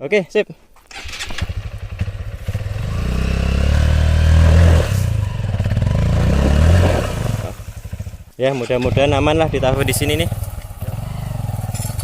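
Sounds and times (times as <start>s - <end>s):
motorcycle engine revving: 0.9s - 12.0s.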